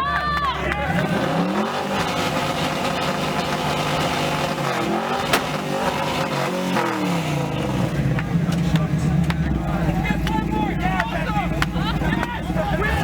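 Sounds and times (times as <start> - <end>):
car engine revving: 0.0 - 13.0
exhaust crack: 0.0 - 13.0.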